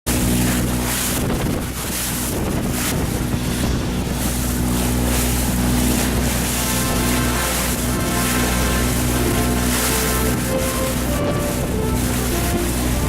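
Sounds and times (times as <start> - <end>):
boat engine hum: 0.1 - 13.0
water rushing past hull: 0.1 - 13.0
wind buffeting microphone: 0.1 - 13.0.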